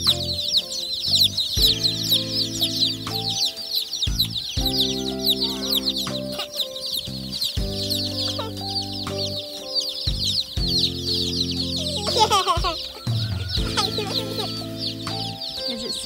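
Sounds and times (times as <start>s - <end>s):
background music of held chords: 0.0s - 16.0s
chicks peeping: 0.0s - 16.0s.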